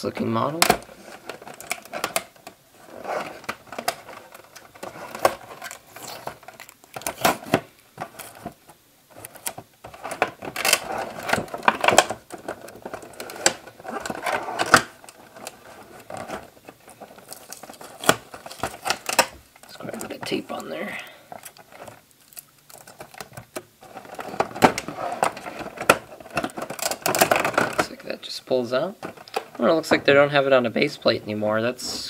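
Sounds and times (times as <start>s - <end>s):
packaging crinkling rustles: 0.6s - 30.4s.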